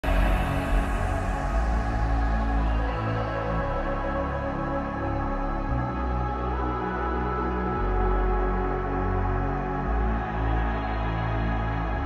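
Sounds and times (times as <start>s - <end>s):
dark ambient music with low bass: 0.0s - 12.0s.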